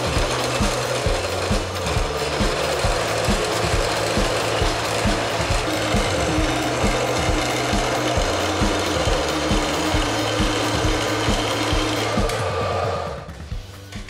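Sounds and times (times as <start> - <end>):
bandsaw cutting steel: 0.0 - 14.0.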